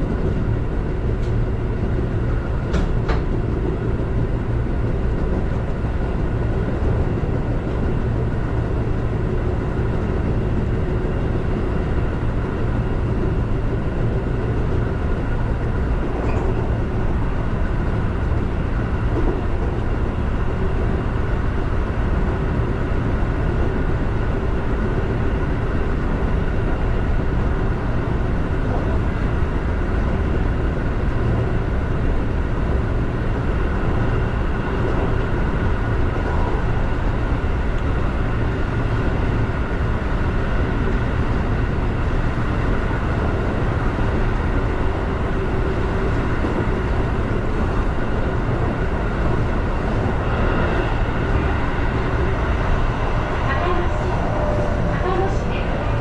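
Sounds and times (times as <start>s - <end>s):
electric train whine: 0.0s - 56.0s
wheels rumbling on rail: 0.0s - 56.0s.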